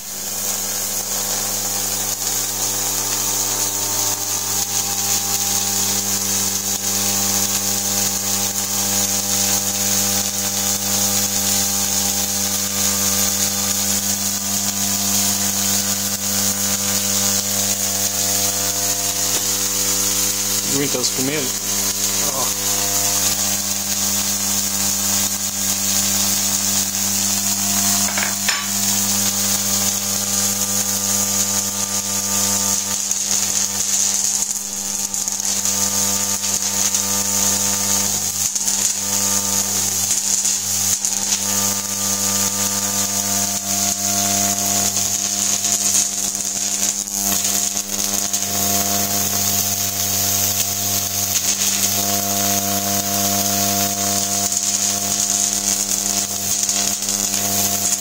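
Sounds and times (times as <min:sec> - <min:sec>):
tesla coil arcs buzzing: 0:00.0 - 0:58.0.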